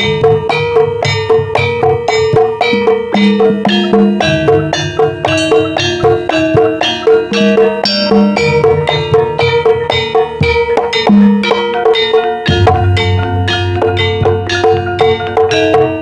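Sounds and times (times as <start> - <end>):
gamelan metal percussion: 0.0 - 16.0.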